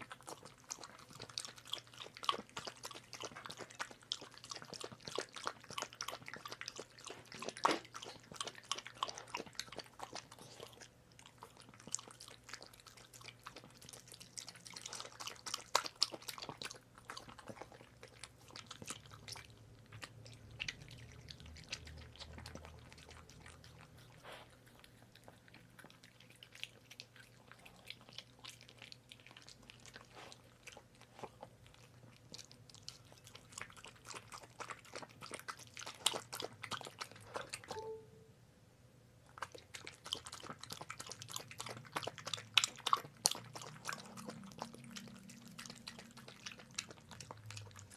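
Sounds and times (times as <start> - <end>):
puppy chewing food: 0.0 - 38.0, 39.2 - 47.9.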